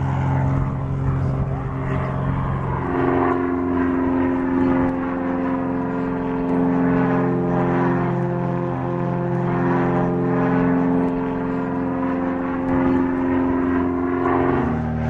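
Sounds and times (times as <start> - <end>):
plane engine and propeller running: 0.0 - 15.0.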